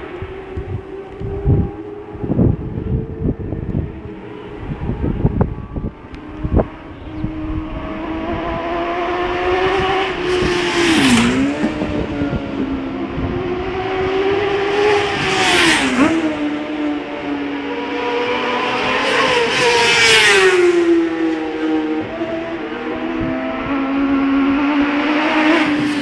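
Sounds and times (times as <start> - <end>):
racing motorcycles passing at speed: 0.0 - 26.0.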